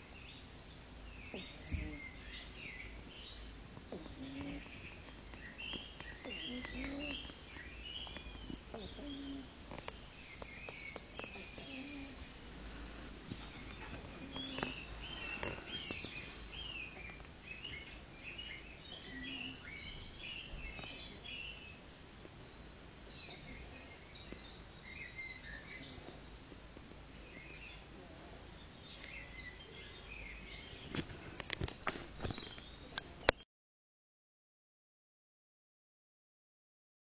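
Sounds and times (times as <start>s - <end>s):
small birds chirping: 0.0s - 33.4s.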